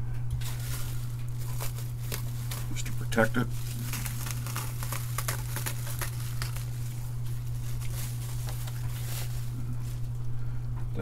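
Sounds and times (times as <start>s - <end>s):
steady low hum: 0.0s - 11.0s
bubble wrap crinkling: 0.4s - 10.4s.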